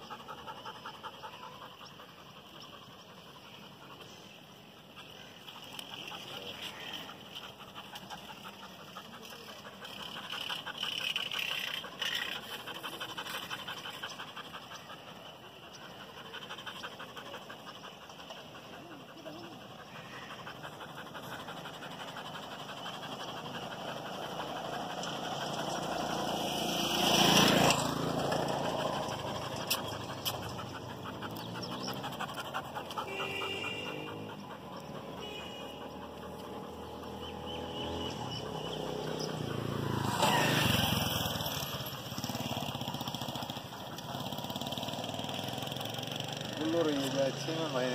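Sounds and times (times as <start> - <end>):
dog panting: 0.0 - 47.9.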